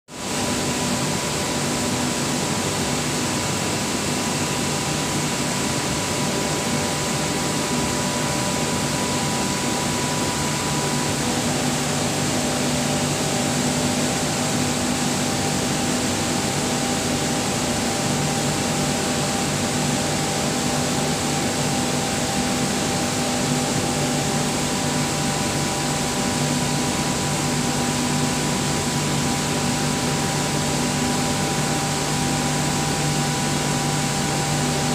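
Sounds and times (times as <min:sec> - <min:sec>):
air compressor running: 0:00.2 - 0:34.9.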